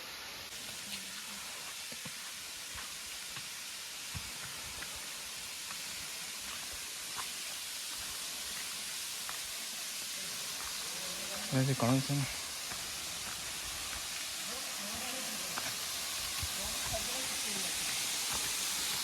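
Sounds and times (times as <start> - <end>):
rushing water hiss: 0.0 - 19.0.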